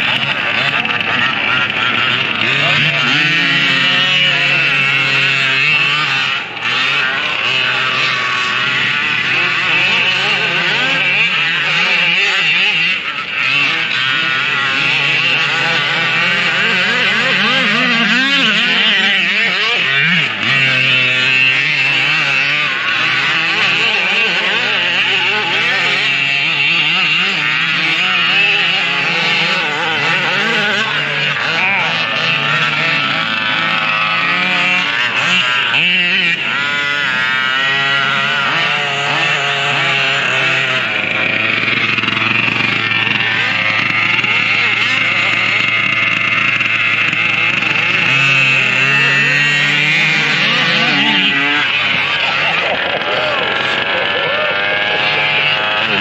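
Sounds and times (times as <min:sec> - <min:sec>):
small two-stroke engines revving: 0:00.0 - 0:56.0.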